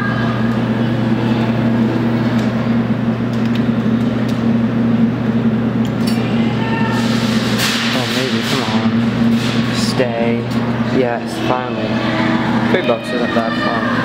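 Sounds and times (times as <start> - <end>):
claw machine motor hum: 0.0 - 14.0.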